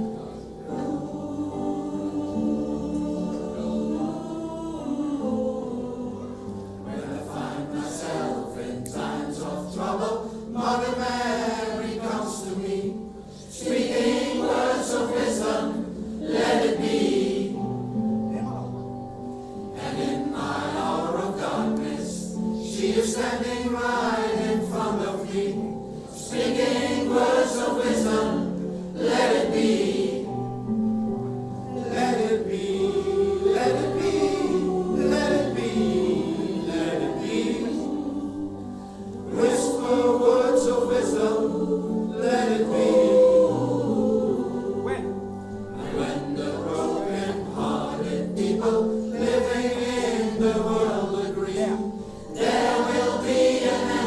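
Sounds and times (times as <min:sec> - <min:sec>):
choir singing with instruments: 0:00.0 - 0:54.0.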